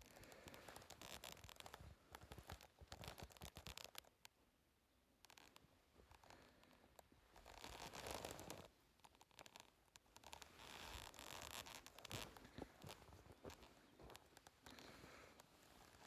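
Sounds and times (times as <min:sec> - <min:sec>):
faint rustling and scraping: 0:00.0 - 0:04.3, 0:05.2 - 0:16.0.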